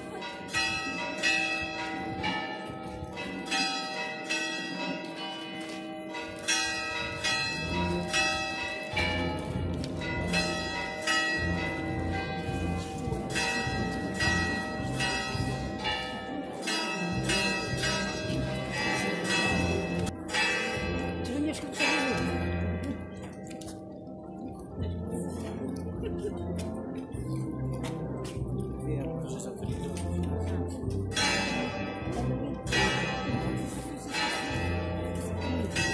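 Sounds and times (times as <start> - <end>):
church bells ringing a peal: 0.0 - 35.9.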